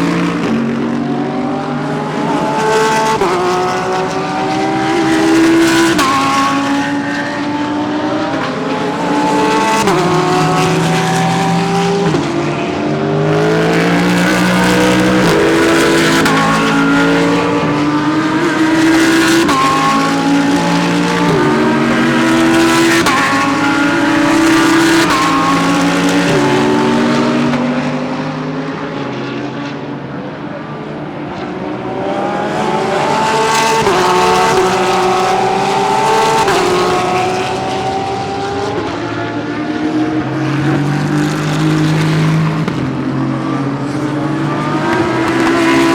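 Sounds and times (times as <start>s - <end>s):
race car engines accelerating: 0.0s - 45.9s.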